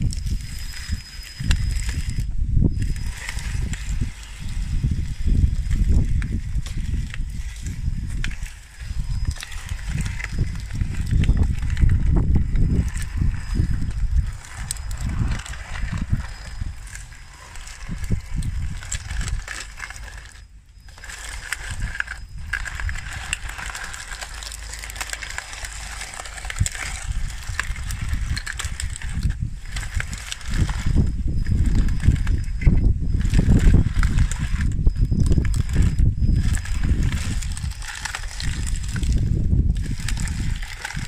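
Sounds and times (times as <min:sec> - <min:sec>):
plastic track chains clattering: 0:00.0 - 0:41.0.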